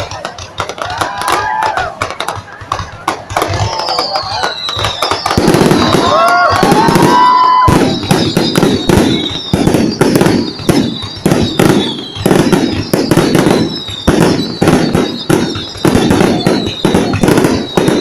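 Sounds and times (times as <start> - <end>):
fireworks booms: 0.0 - 18.0
fireworks bursting: 0.0 - 18.0.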